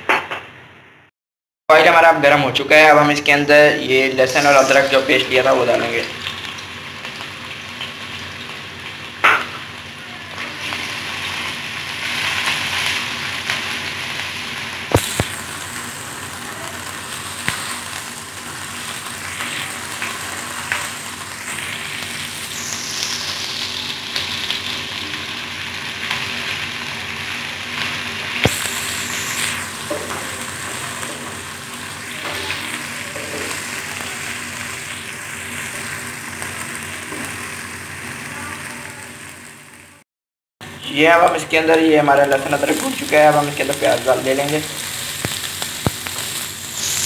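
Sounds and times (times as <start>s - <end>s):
paste sizzling in hot oil: 3.7s - 39.8s, 41.6s - 47.0s.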